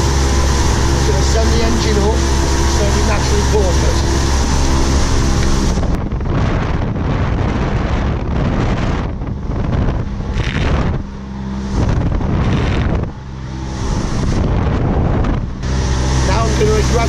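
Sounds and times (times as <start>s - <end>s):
outboard engine running fast: 0.0s - 17.0s
rushing water: 0.0s - 17.0s
wind on microphone: 0.0s - 17.0s.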